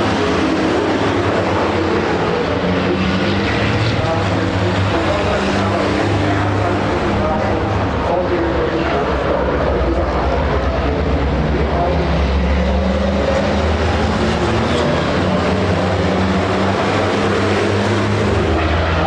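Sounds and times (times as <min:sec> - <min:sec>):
truck engines droning at speed: 0:00.0 - 0:19.0.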